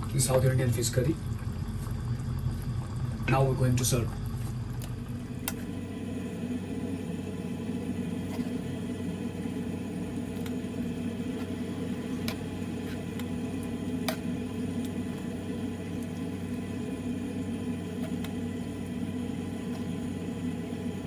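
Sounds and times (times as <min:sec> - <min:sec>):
low appliance hum: 0:00.0 - 0:21.0.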